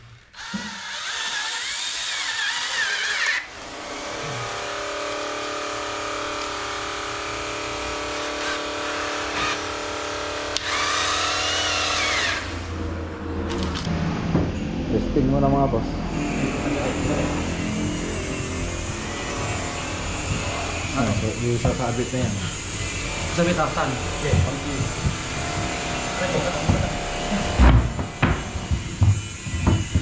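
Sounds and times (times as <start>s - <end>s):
power drill driving screws: 0.1s - 12.6s, 16.2s - 30.0s.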